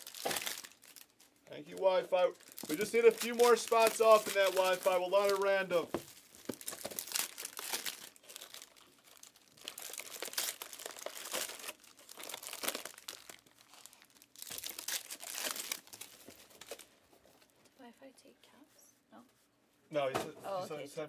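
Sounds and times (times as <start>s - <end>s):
foil wrappers crinkling: 0.0s - 17.5s.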